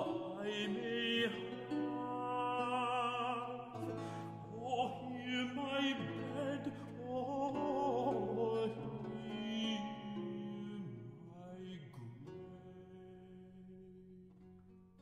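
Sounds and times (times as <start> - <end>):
man singing with vibrato: 0.0 - 14.4
lute playing: 0.0 - 14.5.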